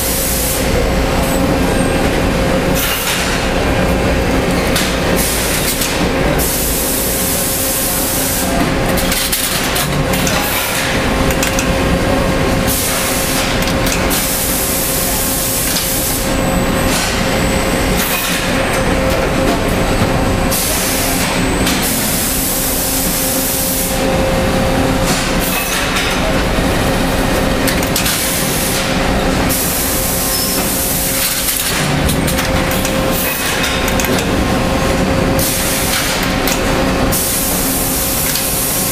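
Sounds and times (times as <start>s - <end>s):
machinery hum: 0.0s - 38.9s.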